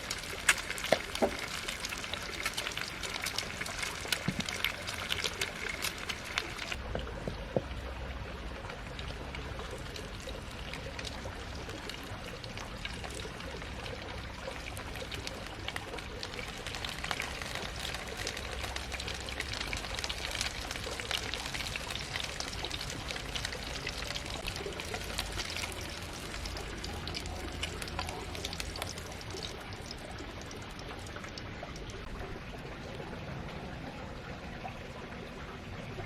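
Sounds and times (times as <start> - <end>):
water pouring and splashing: 0.0 - 36.0.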